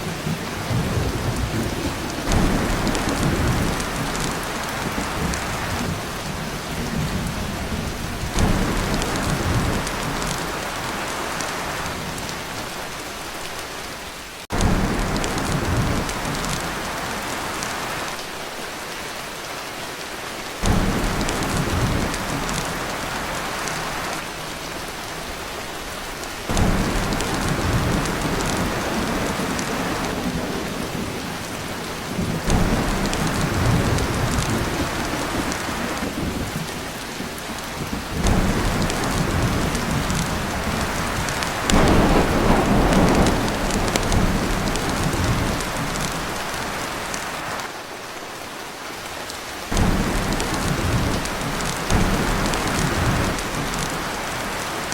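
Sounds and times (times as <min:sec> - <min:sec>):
thunder rolling: 0:00.0 - 0:12.6, 0:14.5 - 0:18.1, 0:20.6 - 0:24.1, 0:26.5 - 0:47.2, 0:49.7 - 0:54.9
rain on a tin roof: 0:00.0 - 0:54.9.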